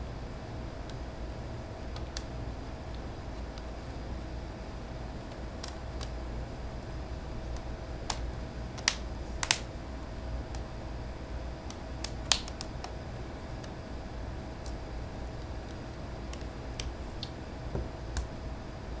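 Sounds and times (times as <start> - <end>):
low steady background hum: 0.0 - 19.0.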